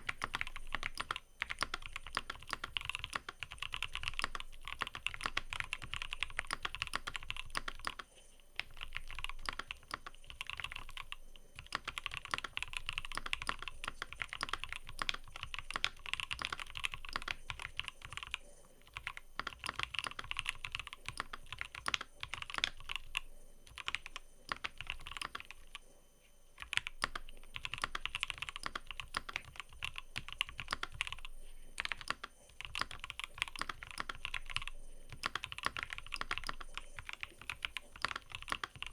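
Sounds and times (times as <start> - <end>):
mechanical keyboard typing: 0.0 - 25.8, 26.6 - 38.9.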